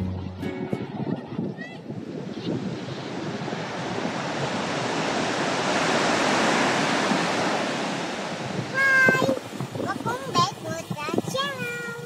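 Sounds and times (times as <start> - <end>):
waves breaking on beach: 1.6 - 12.0.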